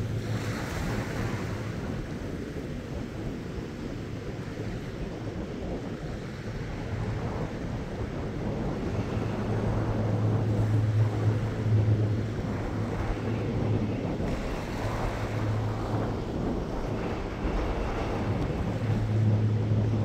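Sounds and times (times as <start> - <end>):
wind on microphone: 0.0 - 20.0
low hum: 2.8 - 20.0.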